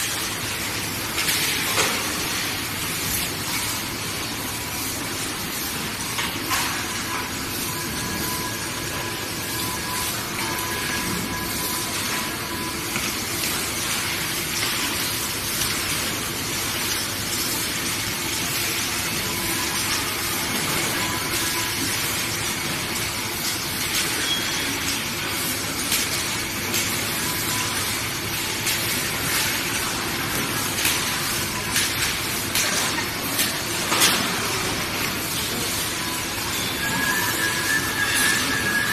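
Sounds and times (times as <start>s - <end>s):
steady hissing factory noise: 0.0s - 38.9s.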